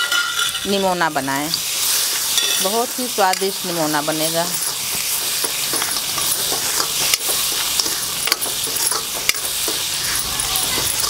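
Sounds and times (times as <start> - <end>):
food sizzling in oil: 0.0 - 11.0
spatula scraping a pan: 1.5 - 11.0.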